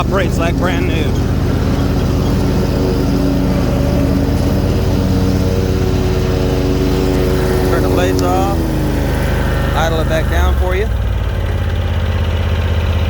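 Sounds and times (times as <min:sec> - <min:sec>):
mower blades cutting grass: 0:00.0 - 0:11.8
riding mower engine running: 0:00.0 - 0:13.0.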